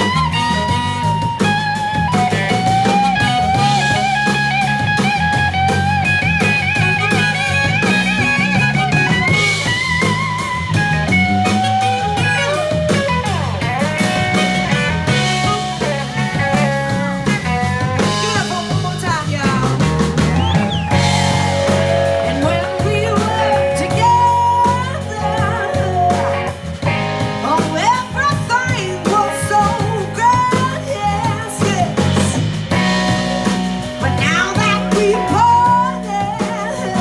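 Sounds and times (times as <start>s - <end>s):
bending lead guitar melody: 0.0s - 37.0s
blues-rock band playing: 0.0s - 37.0s.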